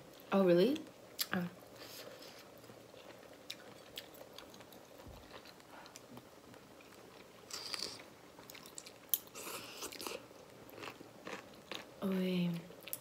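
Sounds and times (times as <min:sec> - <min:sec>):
soft chewing: 0:01.1 - 0:13.0.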